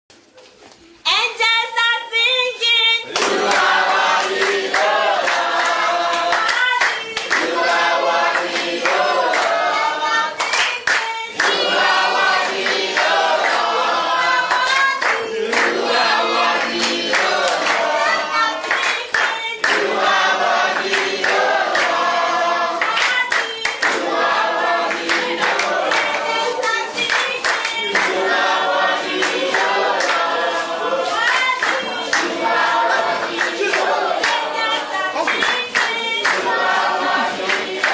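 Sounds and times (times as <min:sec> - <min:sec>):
group singing in chorus: 0:03.0 - 0:37.9
hand-clapping: 0:03.1 - 0:37.9.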